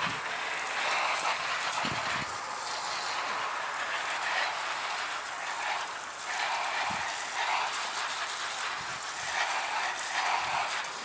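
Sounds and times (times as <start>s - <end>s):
water spraying onto plants: 0.0s - 11.0s.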